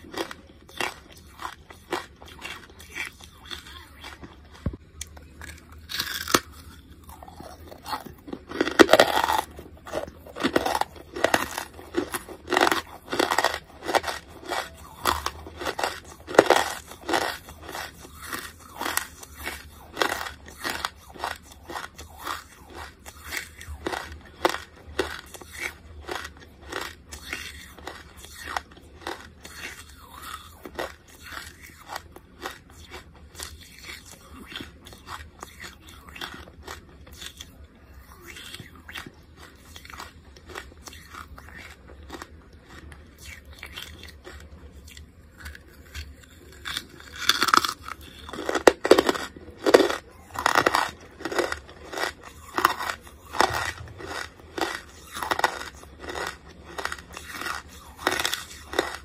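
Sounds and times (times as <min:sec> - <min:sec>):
chewing crunchy charcoal: 0:00.0 - 0:59.0.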